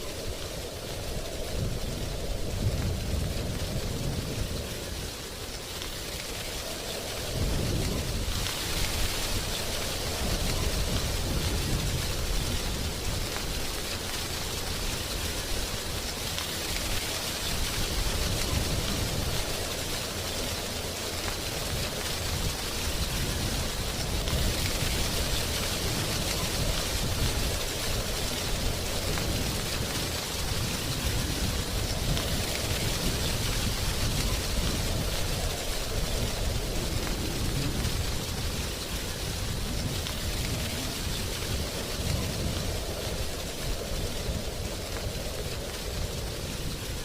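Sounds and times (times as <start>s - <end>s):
wind rustling leaves: 0.0s - 47.0s.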